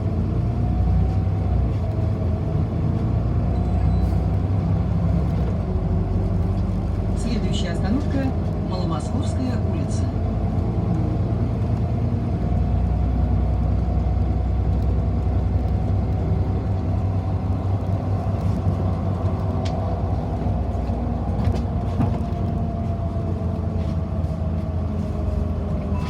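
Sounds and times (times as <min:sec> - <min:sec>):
bus rumbling in motion: 0:00.0 - 0:26.0.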